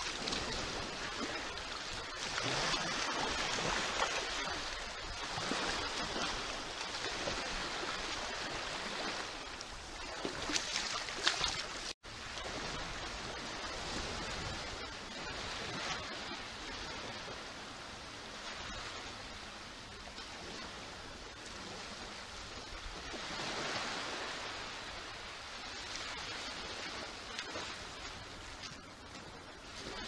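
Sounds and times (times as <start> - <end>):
small waves lapping on sand: 0.0 - 30.0
water splashes: 0.0 - 30.0.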